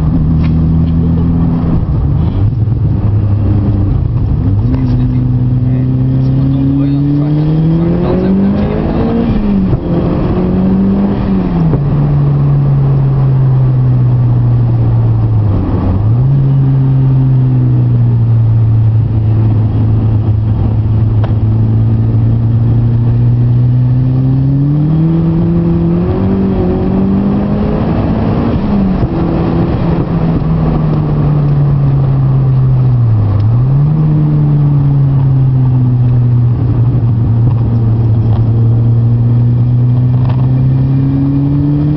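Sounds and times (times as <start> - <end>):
car engine running hard: 0.0 - 41.9
tyre and road noise: 0.0 - 41.9.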